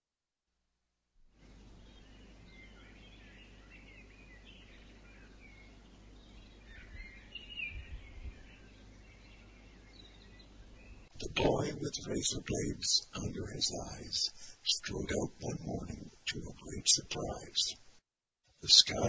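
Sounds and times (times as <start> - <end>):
small birds chirping: 1.4 - 17.9, 18.6 - 19.0
low rumble and hiss: 1.4 - 18.0, 18.6 - 19.0.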